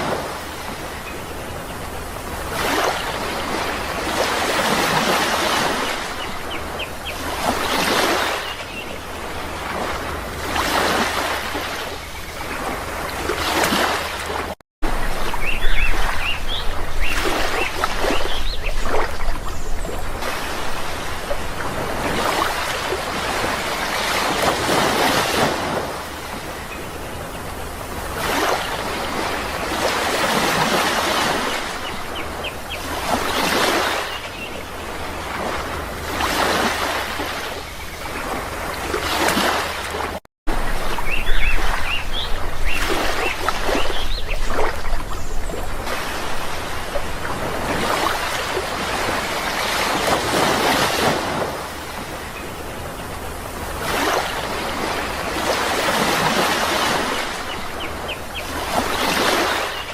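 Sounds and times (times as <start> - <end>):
sea waves washing in: 0.0 - 59.9.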